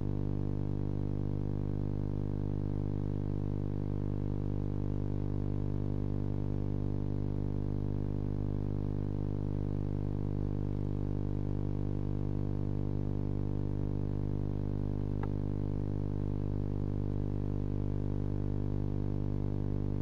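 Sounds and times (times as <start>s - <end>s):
electrical hum with buzzing overtones: 0.0s - 20.0s.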